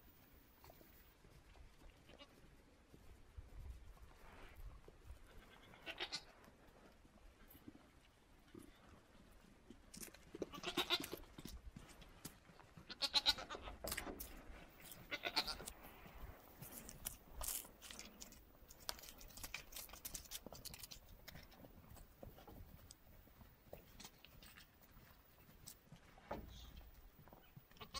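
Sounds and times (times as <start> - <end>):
faint crackles: 0.0 - 27.9.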